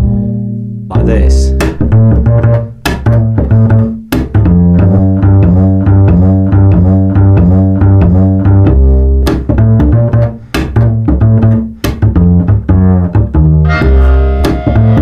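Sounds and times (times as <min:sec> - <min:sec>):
funk music: 0:00.0 - 0:15.0
plucked bass line: 0:00.0 - 0:15.0.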